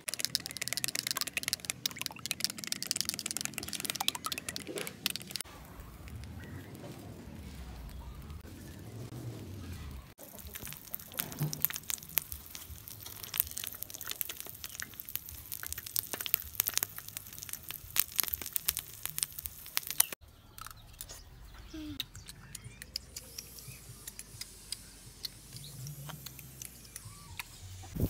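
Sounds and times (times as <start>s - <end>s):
egg sizzling and popping: 0.0s - 8.5s, 10.1s - 20.7s, 22.8s - 28.0s.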